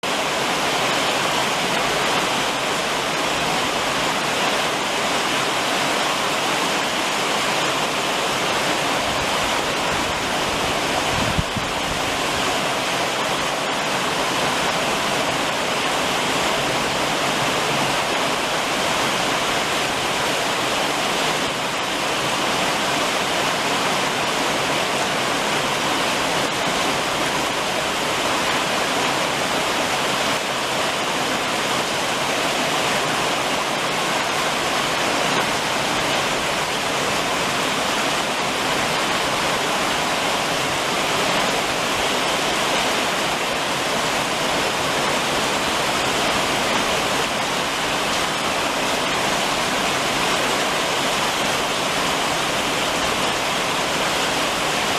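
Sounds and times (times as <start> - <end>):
rain on a roof: 0.0 - 54.9.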